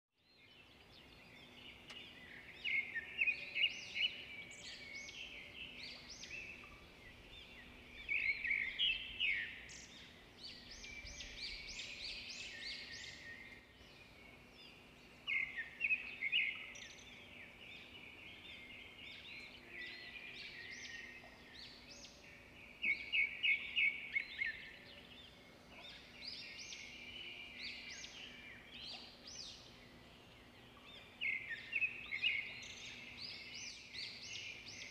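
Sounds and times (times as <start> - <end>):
quiet bird twittering: 0.2 - 34.9
songbirds chirping and trilling: 0.2 - 34.9.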